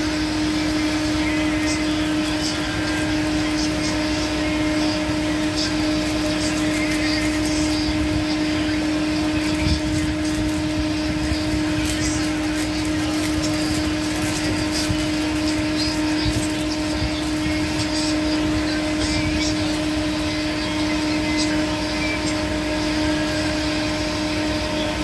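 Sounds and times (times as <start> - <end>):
plastic sachet crinkling: 0.0 - 22.5
steady mechanical hum: 0.0 - 25.0.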